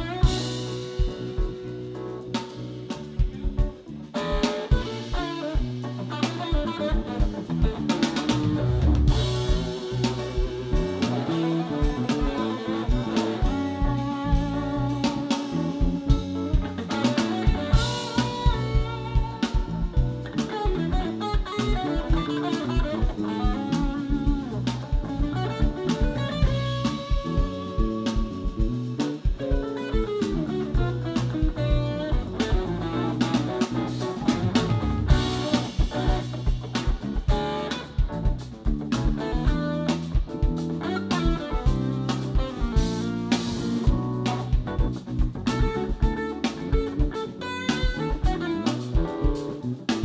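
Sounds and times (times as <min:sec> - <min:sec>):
bass guitar: 0:00.0 - 0:50.0
drum kit: 0:00.0 - 0:50.0
electric guitar: 0:00.0 - 0:50.0
keyboards: 0:00.0 - 0:50.0.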